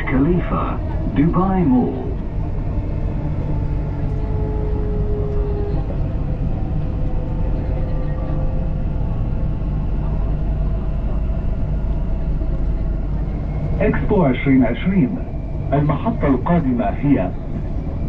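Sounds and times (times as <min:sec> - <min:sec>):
train low rumble inside carriage: 0:00.0 - 0:18.0.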